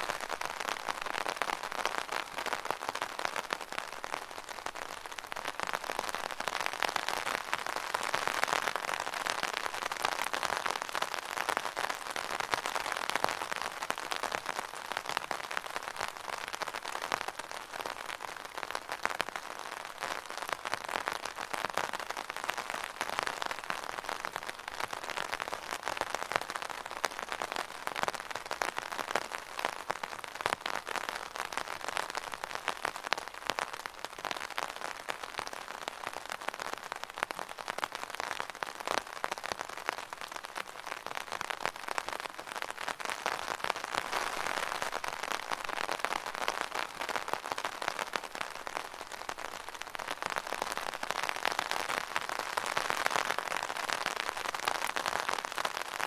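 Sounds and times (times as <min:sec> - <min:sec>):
rain pattering on umbrella: 0:00.0 - 0:56.0.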